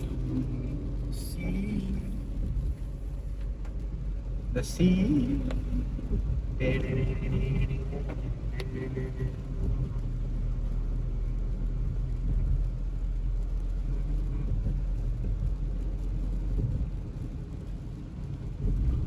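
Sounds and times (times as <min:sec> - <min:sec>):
vehicle driving rumble: 0:00.0 - 0:19.0.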